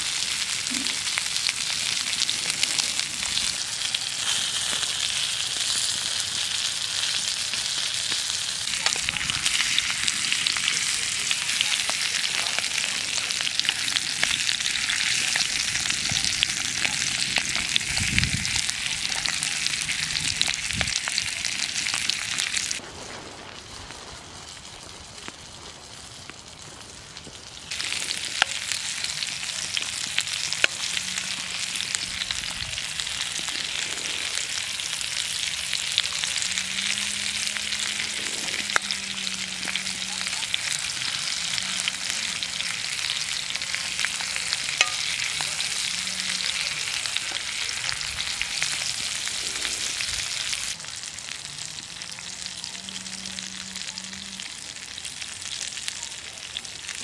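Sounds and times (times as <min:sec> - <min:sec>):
food sizzling in hot fat: 0:00.0 - 0:57.0
outdoor background: 0:00.0 - 0:57.0.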